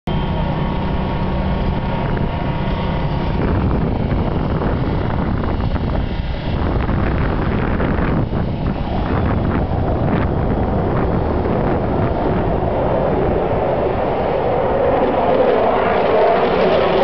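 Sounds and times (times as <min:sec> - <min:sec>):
boat engines droning: 0:00.1 - 0:17.0
humming tone: 0:00.1 - 0:17.0
wind rumbling on microphone: 0:00.1 - 0:17.0.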